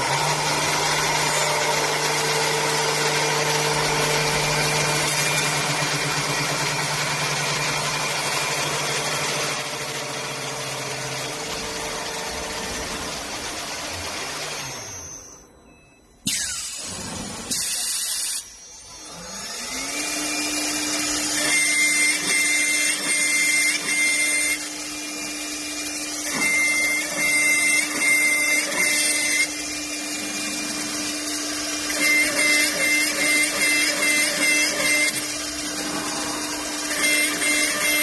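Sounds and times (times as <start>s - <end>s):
wood cutting noise: 0.0s - 15.4s, 16.3s - 38.0s
machine spindle whine: 0.0s - 38.0s.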